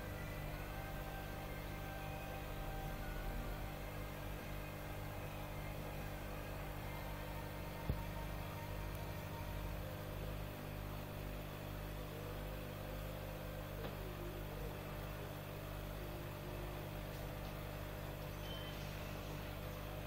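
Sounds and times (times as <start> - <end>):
aquarium pump humming: 0.0 - 20.0.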